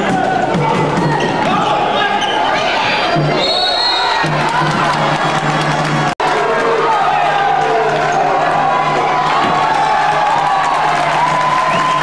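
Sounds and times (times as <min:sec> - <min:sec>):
crowd shouting and cheering: 0:00.0 - 0:12.0.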